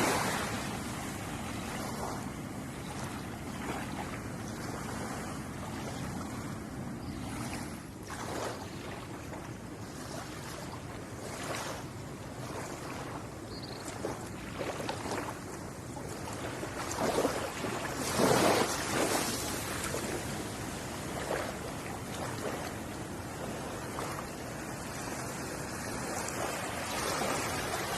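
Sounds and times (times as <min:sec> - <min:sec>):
ocean waves breaking on shore: 0:00.0 - 0:27.9.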